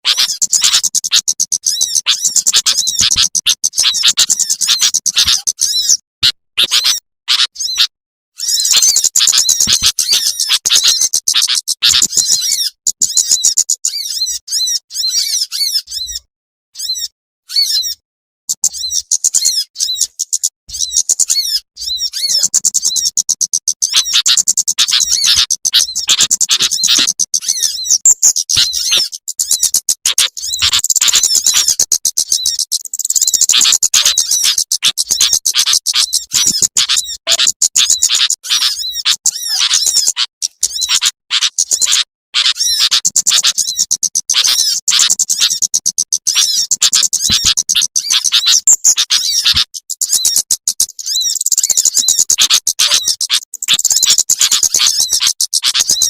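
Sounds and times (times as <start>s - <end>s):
small birds chipping and trilling: 0.0s - 56.0s.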